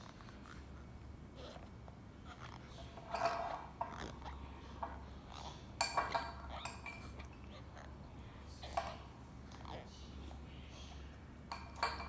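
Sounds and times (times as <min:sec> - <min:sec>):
baby chewing a rubber teether: 0:00.0 - 0:11.8.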